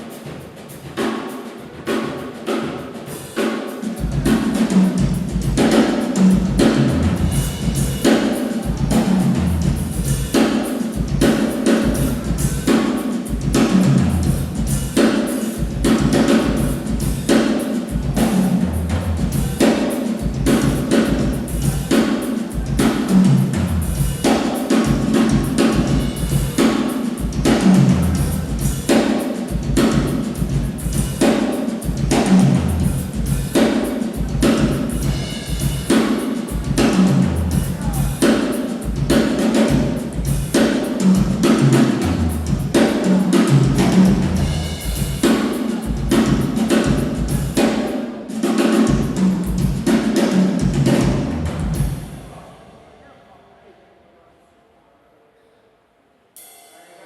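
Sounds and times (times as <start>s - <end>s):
drum kit playing: 0.0s - 52.5s.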